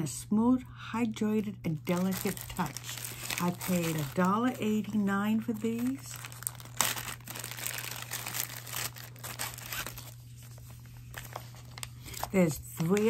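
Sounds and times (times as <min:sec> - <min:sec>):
packaging crinkling: 0:01.8 - 0:13.0.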